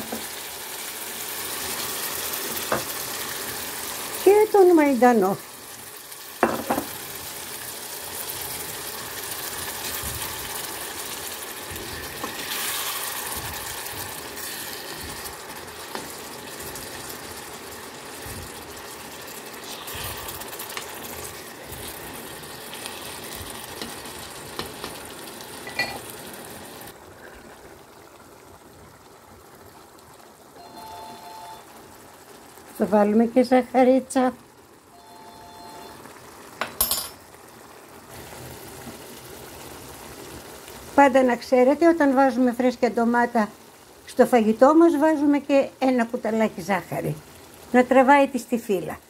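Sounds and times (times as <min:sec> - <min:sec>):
sauce sizzling in a frying pan: 0:00.0 - 0:49.0.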